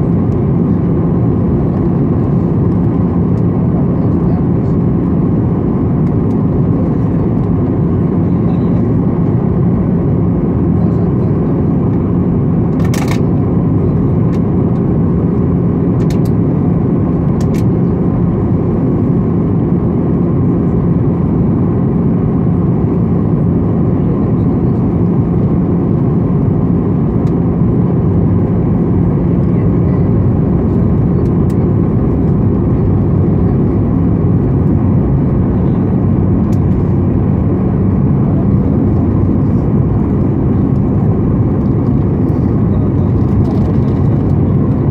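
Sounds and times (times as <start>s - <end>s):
airplane cabin engine drone: 0.0s - 44.9s.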